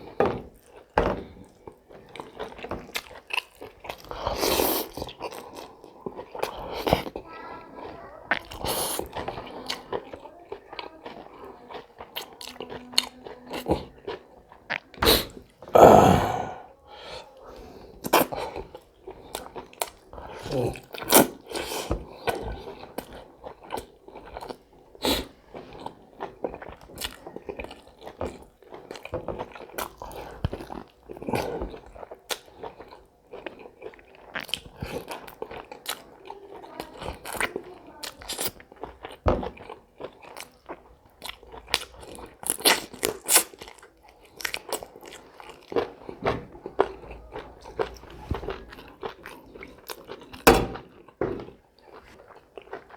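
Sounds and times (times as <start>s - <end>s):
person chewing crunchy food: 0.0s - 7.2s, 8.3s - 16.7s, 17.8s - 52.9s.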